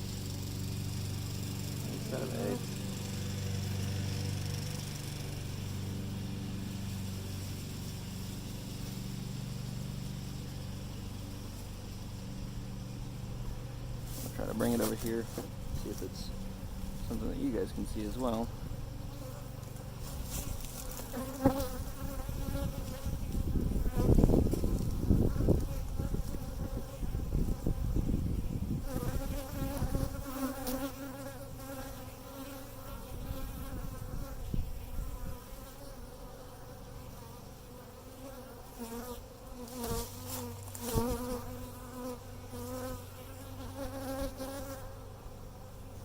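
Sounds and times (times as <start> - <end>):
honeybees buzzing: 0.0 - 46.0.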